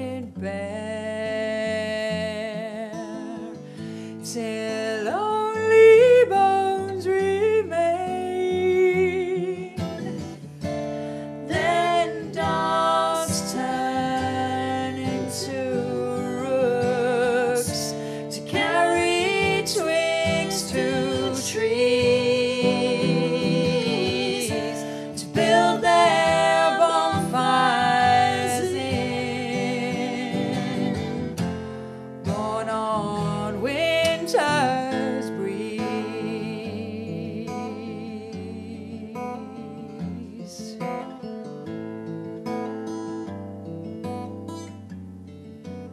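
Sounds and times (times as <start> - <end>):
woman singing: 0.0 - 10.4, 11.2 - 31.6, 32.2 - 41.6
plucked acoustic guitar: 0.0 - 45.9.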